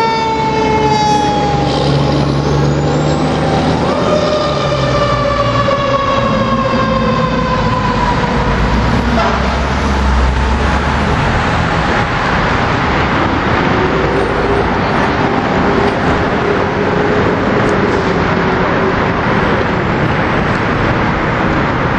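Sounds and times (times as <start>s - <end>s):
traffic rushing: 0.0s - 21.9s.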